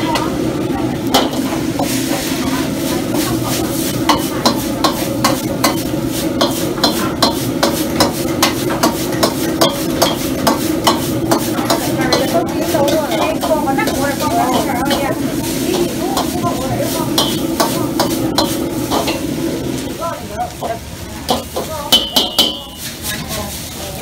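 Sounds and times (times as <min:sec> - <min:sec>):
ladle scraping and knocking wok: 0:00.0 - 0:24.0
rice sizzling: 0:00.0 - 0:24.0.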